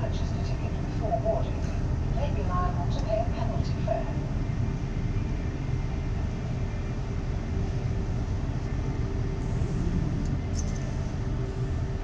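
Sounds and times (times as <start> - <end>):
train rumbling with faint whine: 0.0 - 12.0.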